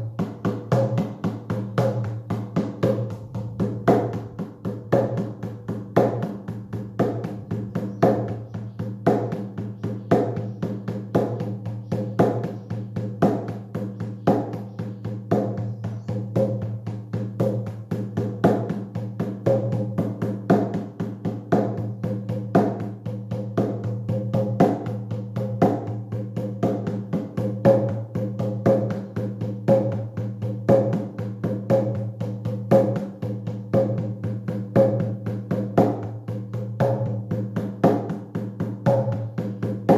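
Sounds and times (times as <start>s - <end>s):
fast drumming on a drum: 0.0s - 39.9s.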